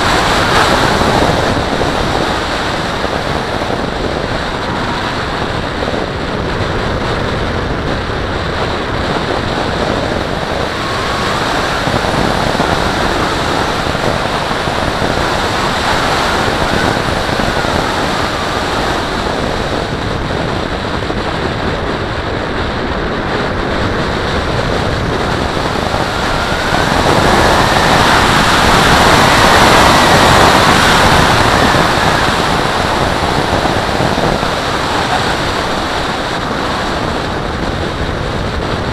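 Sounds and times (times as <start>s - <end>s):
rush of air over camera: 0.0s - 38.9s.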